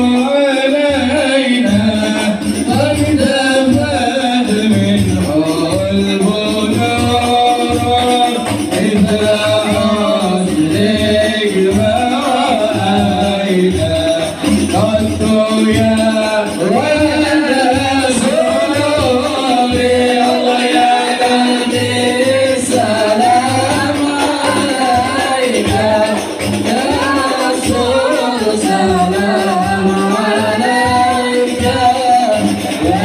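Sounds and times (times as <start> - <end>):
frame drums beating: 0.0 - 33.0
men singing devotional song: 0.0 - 33.0.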